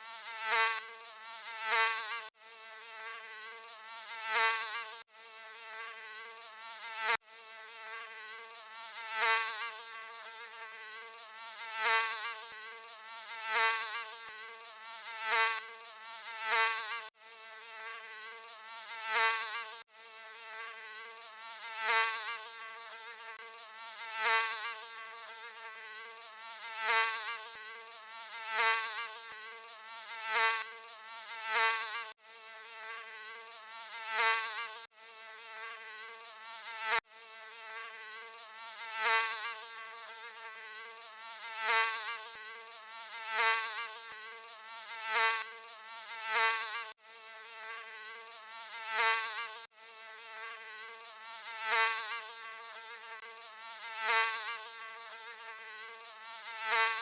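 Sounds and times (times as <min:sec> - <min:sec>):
mosquito buzzing: 0:00.0 - 0:57.0.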